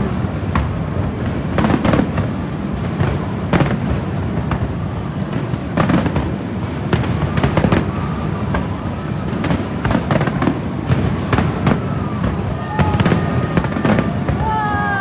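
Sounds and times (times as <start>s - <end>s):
distant fireworks bursting: 0.0s - 15.0s.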